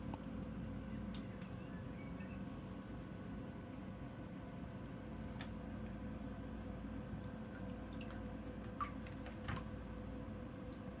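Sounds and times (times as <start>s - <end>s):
water dripping and trickling: 0.0s - 2.7s, 4.6s - 11.0s
aquarium pumps humming: 0.0s - 11.0s.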